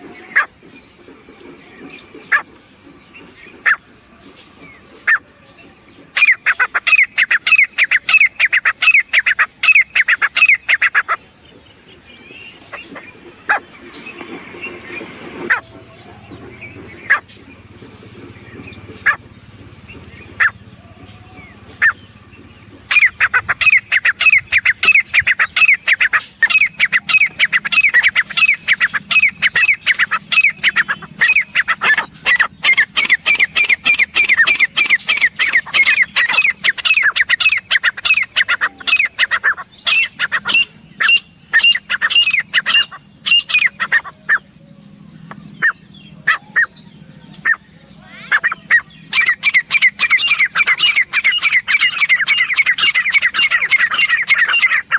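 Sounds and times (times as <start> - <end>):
francolin calling: 0.0 - 54.9.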